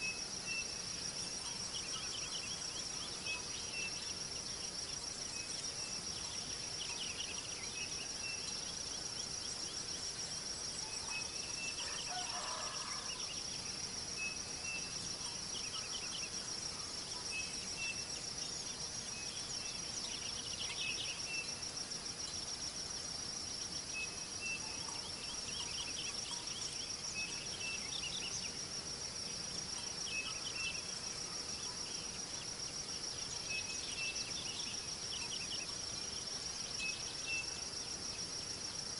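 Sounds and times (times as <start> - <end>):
insect trill: 0.0 - 38.9.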